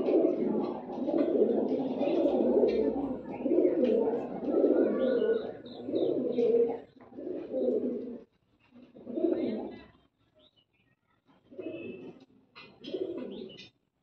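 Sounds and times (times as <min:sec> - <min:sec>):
pigeons cooing: 0:00.0 - 0:09.9, 0:11.5 - 0:13.7.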